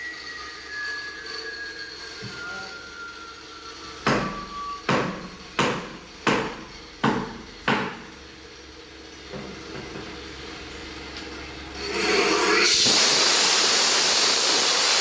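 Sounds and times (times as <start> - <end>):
steady background hum: 0.0 - 12.9.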